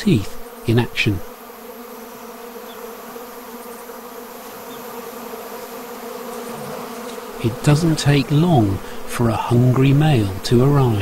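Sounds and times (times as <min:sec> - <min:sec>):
steady buzz: 0:00.0 - 0:11.0.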